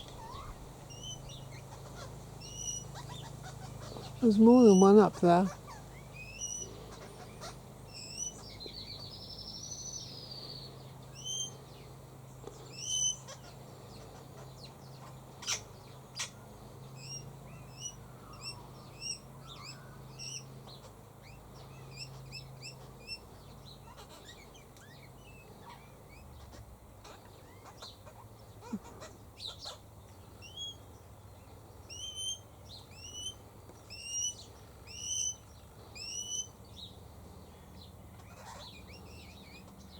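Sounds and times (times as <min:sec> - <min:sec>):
bird warbling call: 0:00.0 - 0:11.9, 0:12.6 - 0:30.9, 0:31.9 - 0:36.6
birds chirping: 0:00.0 - 0:39.9
distant lawn mower drone: 0:00.0 - 0:39.9.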